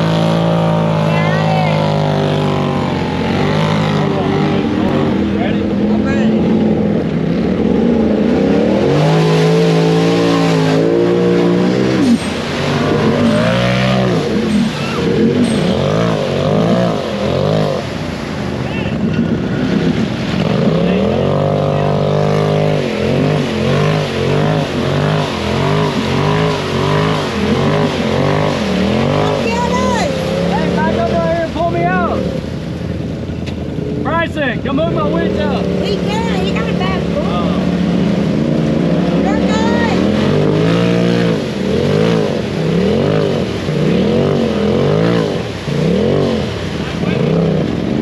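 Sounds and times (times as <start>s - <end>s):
utv engine revving: 0.0s - 48.0s.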